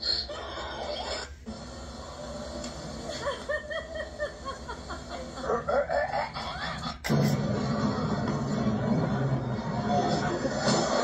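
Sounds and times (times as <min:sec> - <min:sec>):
voices from a tv: 0:00.0 - 0:11.0
music from a tv: 0:01.4 - 0:11.0.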